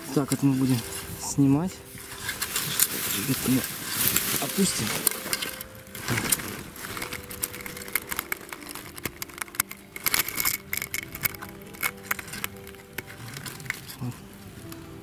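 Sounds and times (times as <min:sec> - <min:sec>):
fabric rustling and crackling: 0:00.0 - 0:15.0.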